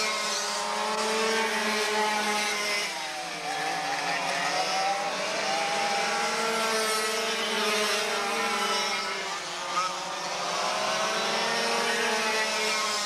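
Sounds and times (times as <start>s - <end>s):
go-kart engines buzzing: 0.0s - 13.0s.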